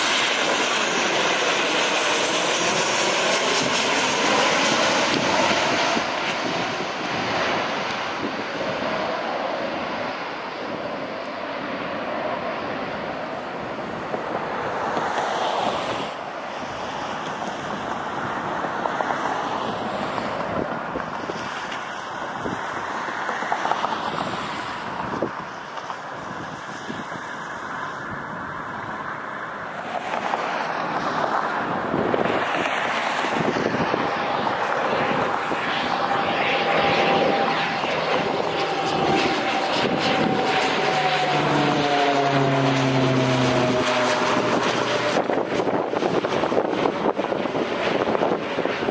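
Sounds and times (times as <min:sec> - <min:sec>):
airliner jet engines landing: 0:00.0 - 0:48.9
propeller plane passing overhead: 0:00.0 - 0:48.9.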